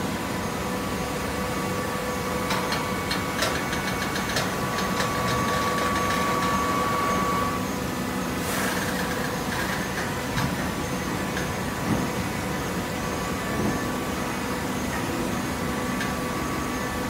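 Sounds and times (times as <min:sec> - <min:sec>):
baler motor and pump hum: 0:00.0 - 0:17.0.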